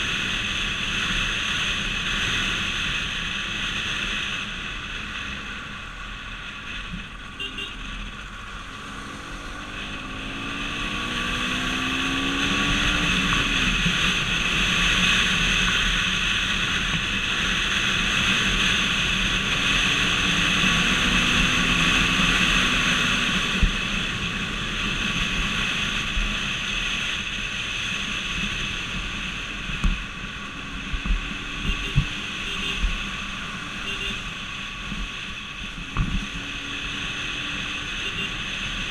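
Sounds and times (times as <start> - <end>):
pitched engine hum: 0.0 - 38.9
tyre and wind road noise: 0.0 - 38.9.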